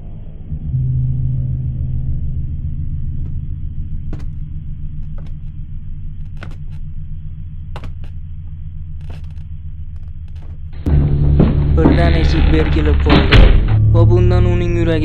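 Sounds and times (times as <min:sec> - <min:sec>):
low rumbling ambient drone: 0:00.0 - 0:15.0.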